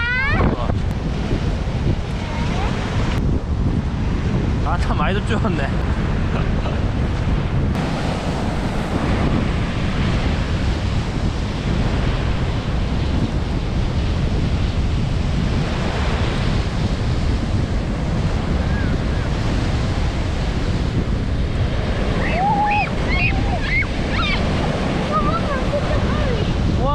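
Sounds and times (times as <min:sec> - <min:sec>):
sea surf washing onto beach: 0:00.0 - 0:26.9
wind buffeting microphone: 0:00.0 - 0:26.9.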